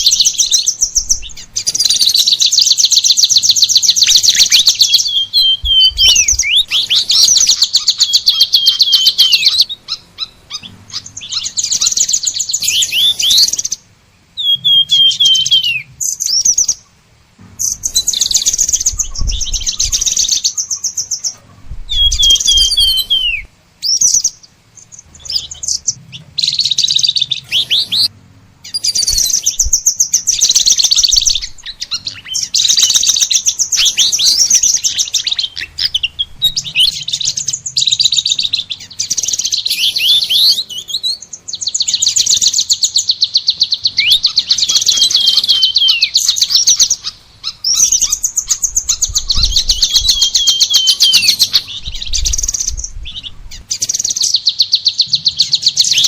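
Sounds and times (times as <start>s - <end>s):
small songbirds trilling: 0.0s - 56.0s.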